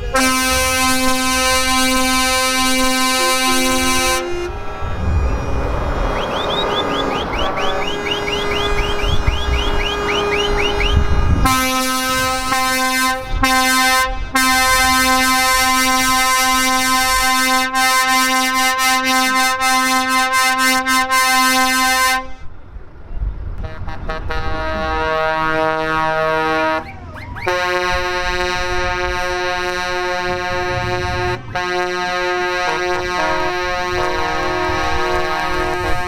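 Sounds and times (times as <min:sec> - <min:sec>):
multi-note horn chord: 0:00.0 - 0:22.4, 0:27.5 - 0:36.0
pulsing truck air horn: 0:00.0 - 0:22.5, 0:23.6 - 0:36.0
rising horn chirps: 0:00.0 - 0:22.5, 0:24.1 - 0:36.0.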